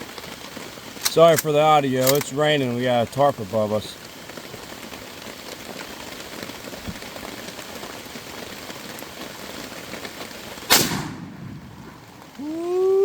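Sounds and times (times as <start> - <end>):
rain falling on a tarp: 0.0 - 13.0.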